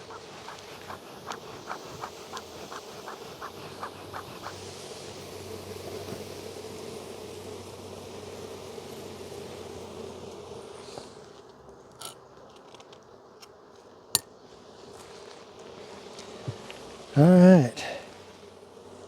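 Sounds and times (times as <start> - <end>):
honey bees buzzing: 0.0 - 11.4, 14.6 - 19.0.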